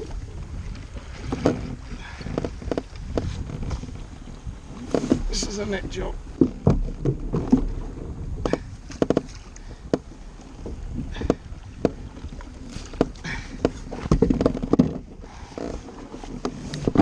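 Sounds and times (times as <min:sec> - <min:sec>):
knocks against a kayak: 0:00.0 - 0:04.0, 0:04.8 - 0:17.0
water splashing: 0:00.0 - 0:17.0.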